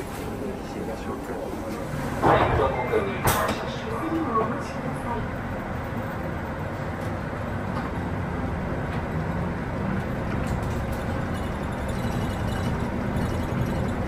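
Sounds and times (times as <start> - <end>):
bus engine drone: 0.0 - 14.0
road and tyre noise: 0.0 - 14.0.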